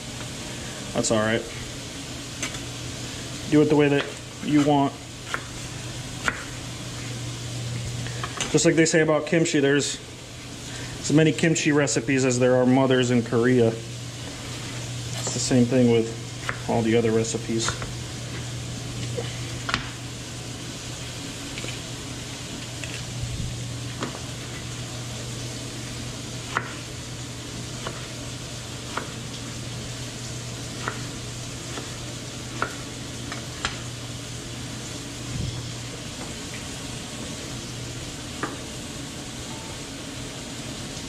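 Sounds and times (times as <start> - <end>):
low steady hum: 0.0 - 41.0
vegetables sizzling in oil: 1.6 - 8.6, 13.5 - 41.0.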